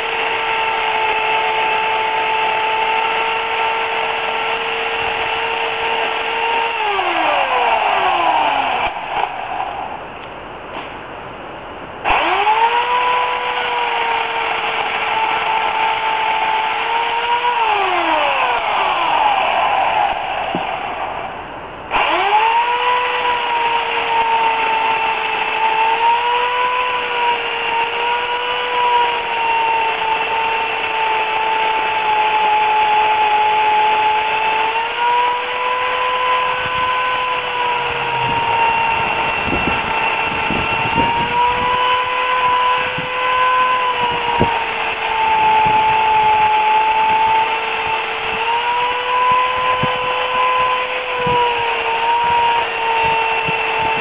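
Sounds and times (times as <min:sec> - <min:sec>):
electric chainsaw cutting wood: 0:00.0 - 0:10.9, 0:12.0 - 0:54.0.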